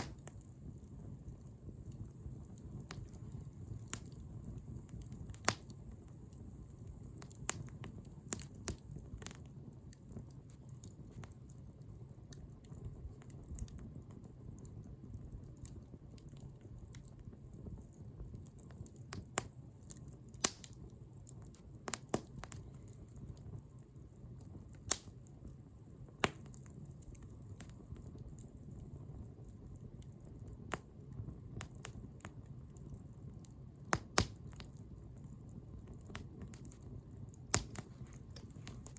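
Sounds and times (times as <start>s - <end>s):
bonfire flames rumbling: 0.0s - 38.9s
fire pops and crackles: 0.0s - 38.9s.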